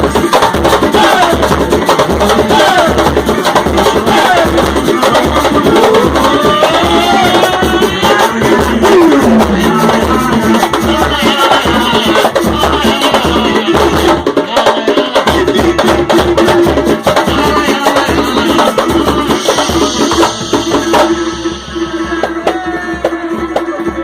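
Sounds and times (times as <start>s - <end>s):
hand percussion: 0.0s - 24.0s
low drum beat: 0.0s - 24.0s
voices singing: 0.1s - 24.0s.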